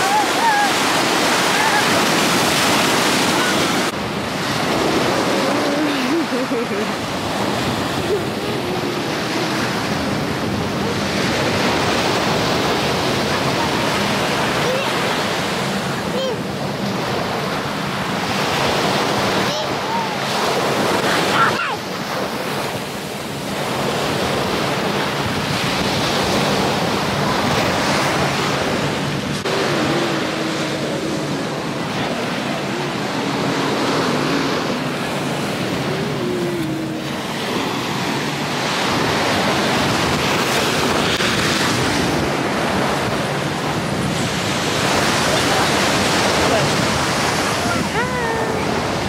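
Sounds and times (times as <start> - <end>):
waves breaking on beach: 0.0 - 49.0.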